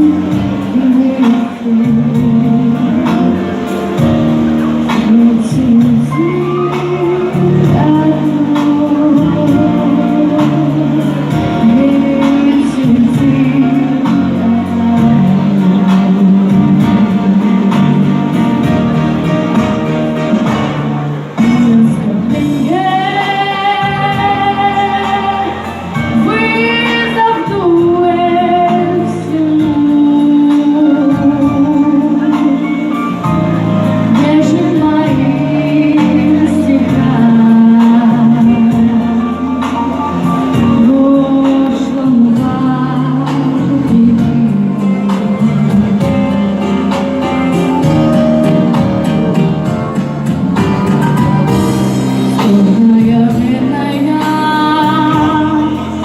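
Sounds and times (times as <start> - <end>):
woman singing: 0.0 - 19.7, 20.3 - 56.0
instrumental accompaniment: 0.0 - 56.0.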